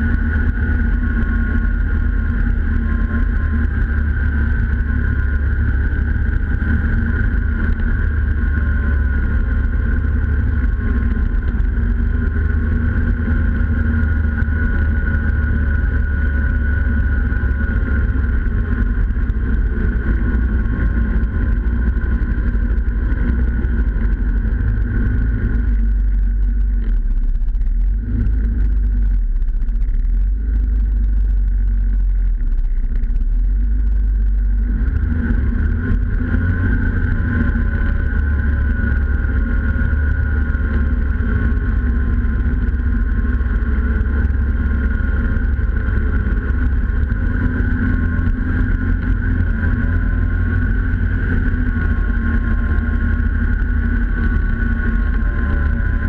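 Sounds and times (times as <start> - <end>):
snowmobile engine and track running: 0.0 - 56.0.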